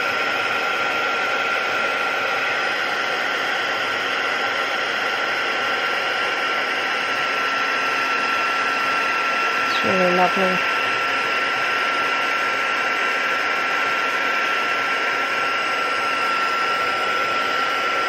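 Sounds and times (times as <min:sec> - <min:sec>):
heat tool fan whine: 0:00.0 - 0:18.0.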